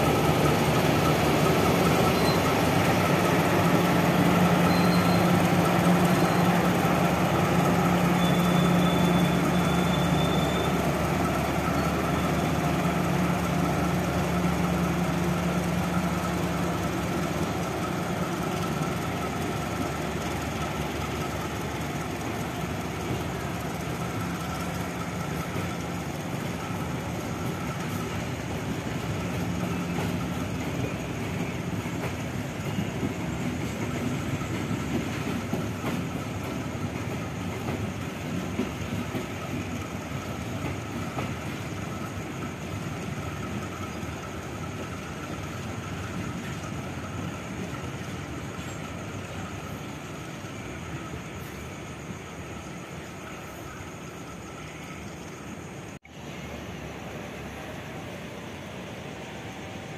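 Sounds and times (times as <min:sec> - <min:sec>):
train carriages rumbling: 0:00.0 - 0:59.9.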